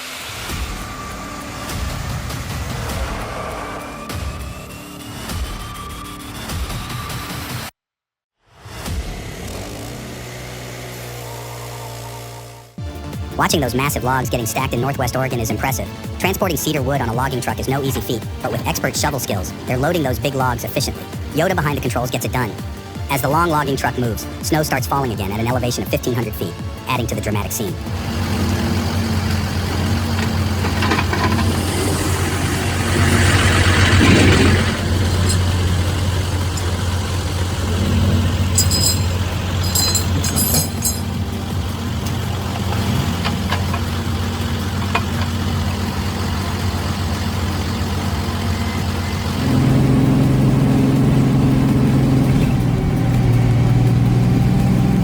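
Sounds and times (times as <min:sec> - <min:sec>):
diesel truck engine running: 0:09.8 - 0:55.0.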